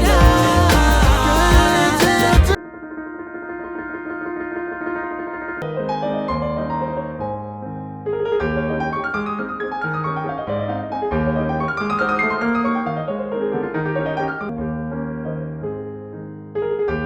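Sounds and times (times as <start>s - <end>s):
piano music: 0.0s - 2.6s, 5.6s - 17.0s.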